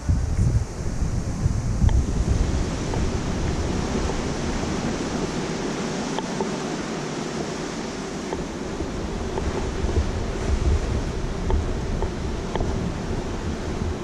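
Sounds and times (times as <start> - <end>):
seawater rushing along ship: 0.0 - 14.0
wind buffeting microphone: 0.0 - 14.0.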